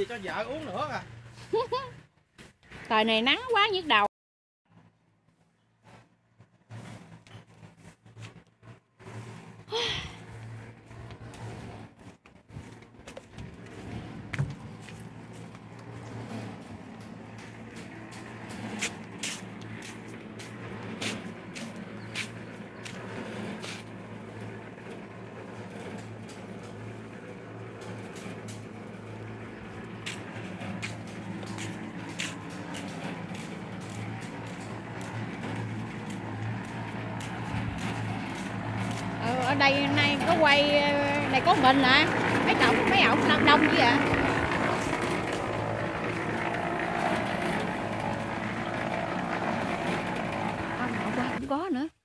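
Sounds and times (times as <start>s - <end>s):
low mechanical hum: 5.6s - 52.0s.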